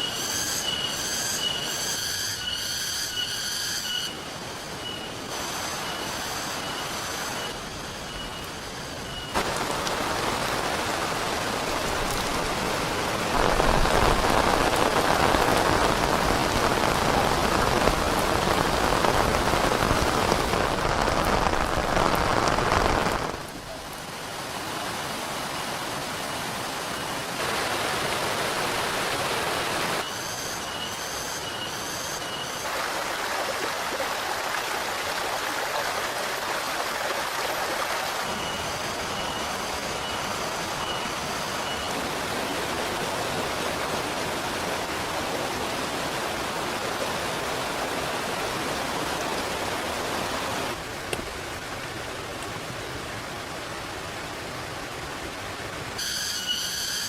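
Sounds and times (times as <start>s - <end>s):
rain falling: 4.2s - 30.1s, 32.6s - 56.0s.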